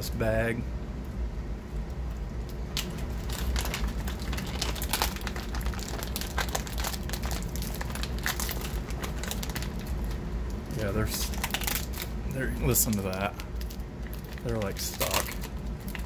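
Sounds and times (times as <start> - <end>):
plastic bag crinkling: 2.7 - 16.0.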